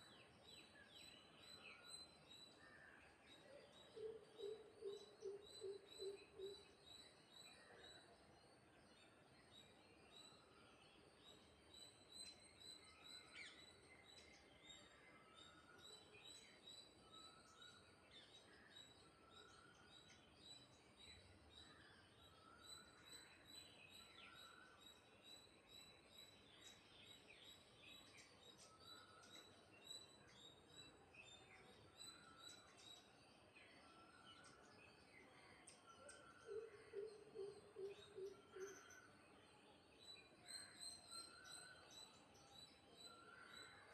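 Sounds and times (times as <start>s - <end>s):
faint bird chirps: 0.0s - 43.9s.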